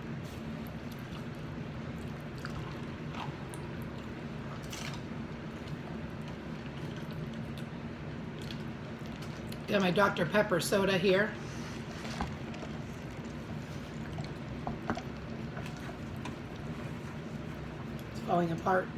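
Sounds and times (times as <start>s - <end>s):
steady low hum: 0.0s - 18.9s
wet chewing: 0.6s - 9.7s, 11.8s - 18.2s.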